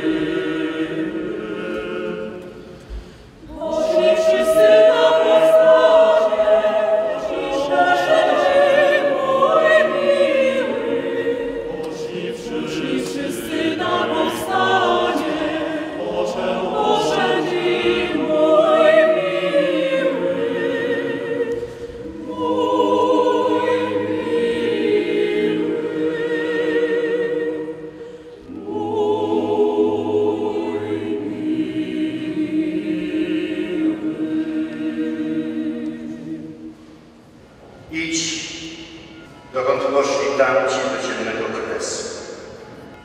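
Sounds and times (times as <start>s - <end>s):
mixed choir singing: 0.0s - 43.0s.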